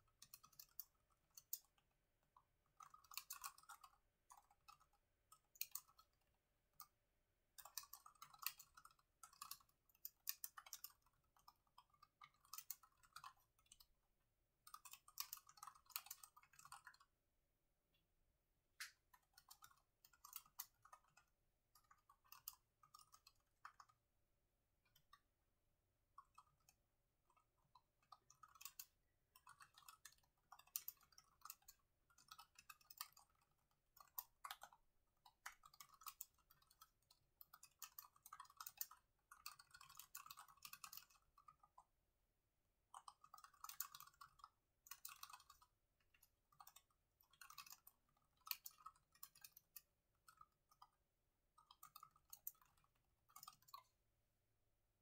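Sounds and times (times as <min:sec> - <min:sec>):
typing on laptop keyboard: 0:00.0 - 0:14.0, 0:14.6 - 0:17.2, 0:18.8 - 0:24.1, 0:26.0 - 0:42.0, 0:42.8 - 0:54.0.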